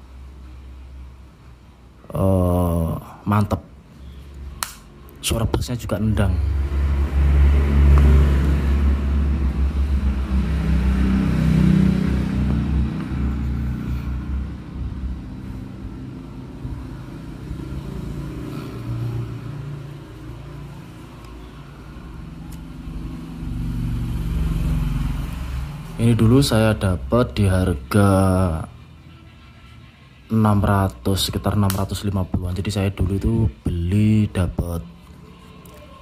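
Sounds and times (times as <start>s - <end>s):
vehicle engine rumbling: 3.8s - 36.0s.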